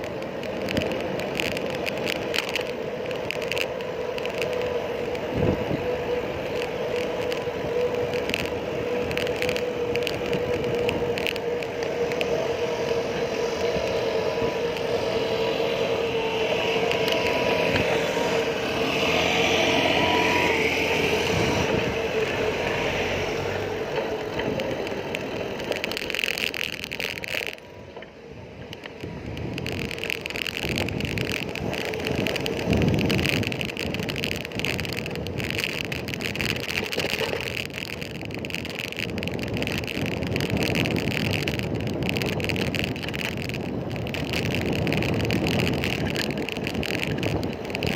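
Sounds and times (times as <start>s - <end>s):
engine hum: 0.0s - 47.9s
road noise: 0.0s - 47.9s
vehicles passing: 0.0s - 47.9s.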